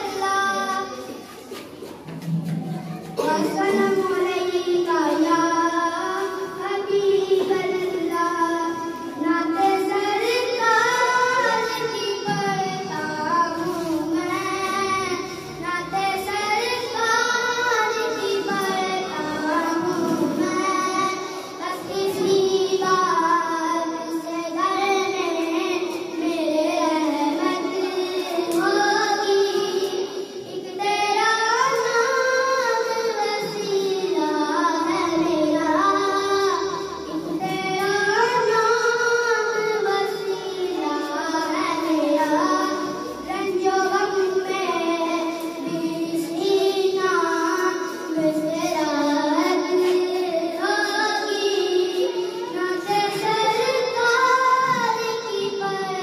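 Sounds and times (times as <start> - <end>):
boy singing into a microphone: 0.0 - 56.0.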